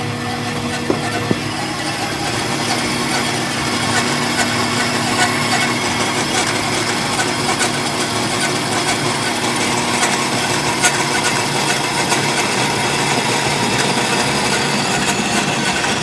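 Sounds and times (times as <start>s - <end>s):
power saw cutting steel: 0.0s - 16.0s.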